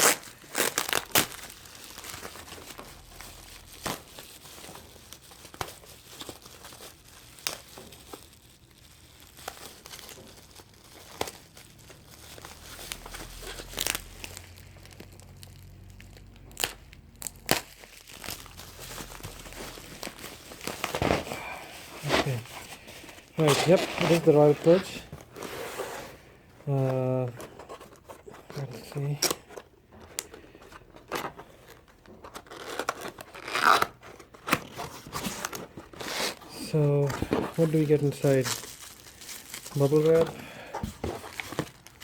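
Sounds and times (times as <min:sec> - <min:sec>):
bubble wrap crinkling: 0:00.0 - 0:42.0.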